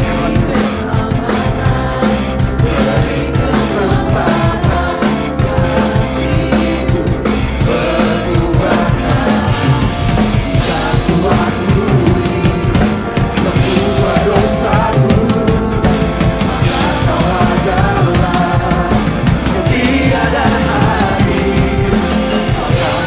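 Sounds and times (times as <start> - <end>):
people singing: 0.0 - 23.0
worship band playing: 0.0 - 23.0.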